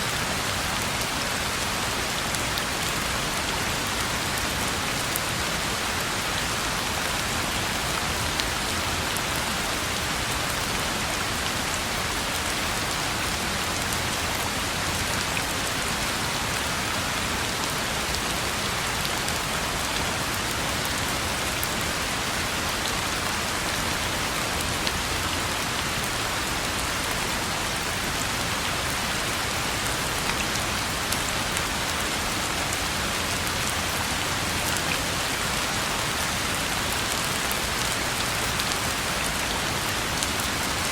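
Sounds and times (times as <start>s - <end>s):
rain falling on a road: 0.0s - 40.9s.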